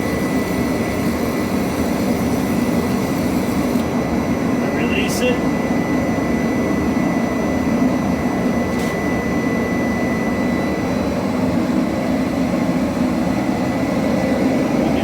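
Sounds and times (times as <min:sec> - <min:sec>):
gas forge roaring: 0:00.0 - 0:15.0.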